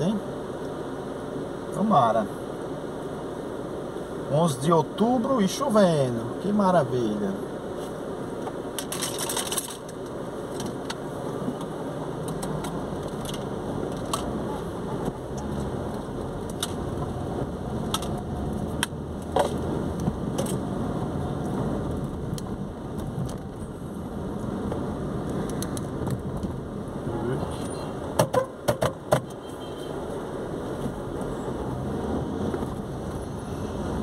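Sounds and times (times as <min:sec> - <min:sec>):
engine and tyres on wet road: 0:00.0 - 0:34.0.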